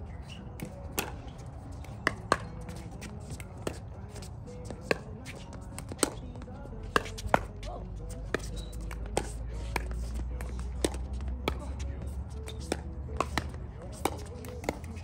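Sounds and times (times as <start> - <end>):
paddles hitting plastic ball: 0.6 - 15.0.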